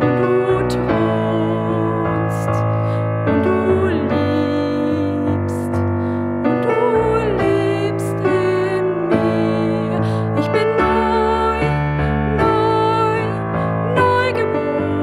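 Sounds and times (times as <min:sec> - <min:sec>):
person singing melody: 0:00.0 - 0:15.0
piano chords: 0:00.0 - 0:15.0.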